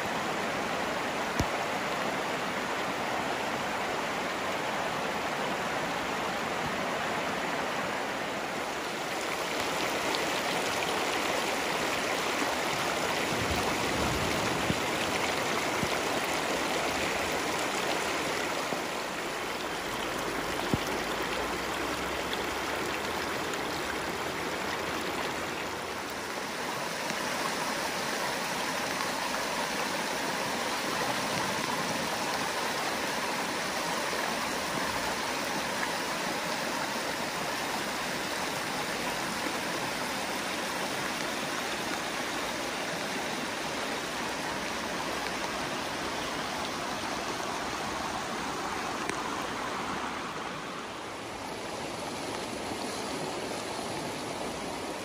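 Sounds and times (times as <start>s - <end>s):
stream flowing over pebbles: 0.0s - 55.0s.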